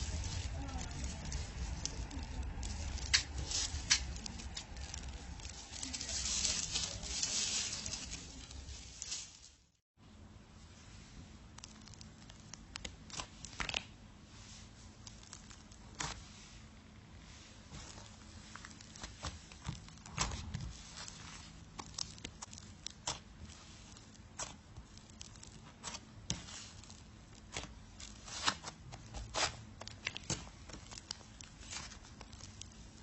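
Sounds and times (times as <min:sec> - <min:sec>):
slime crackling and popping: 0:00.0 - 0:09.3, 0:11.5 - 0:14.0, 0:14.9 - 0:16.4, 0:17.7 - 0:33.0
steady low hum: 0:00.0 - 0:33.0.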